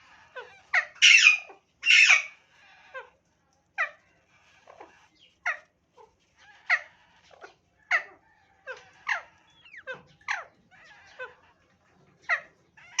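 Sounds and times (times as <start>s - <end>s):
bird chicks begging calls: 0.0s - 3.2s, 3.9s - 13.0s.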